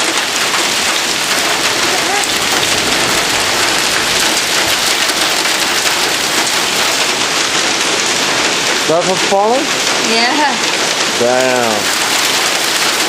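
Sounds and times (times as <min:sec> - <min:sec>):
heavy rain and hail pelting: 0:00.0 - 0:13.0.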